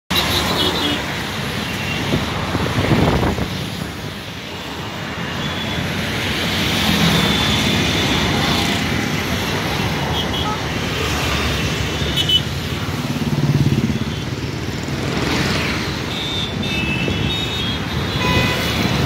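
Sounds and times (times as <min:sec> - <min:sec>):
city road traffic: 0:00.1 - 0:19.0.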